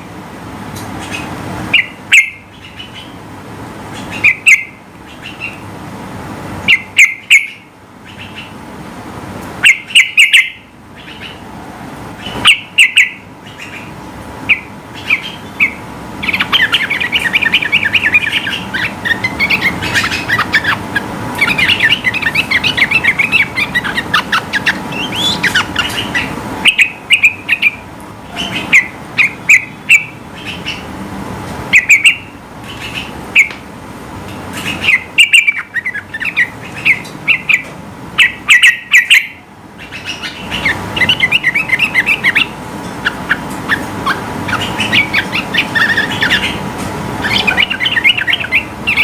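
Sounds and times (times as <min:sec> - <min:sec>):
bird singing: 0:00.8 - 0:03.3, 0:03.9 - 0:05.7, 0:06.7 - 0:08.6, 0:09.6 - 0:11.4, 0:12.2 - 0:30.9, 0:31.7 - 0:33.5, 0:34.5 - 0:49.0.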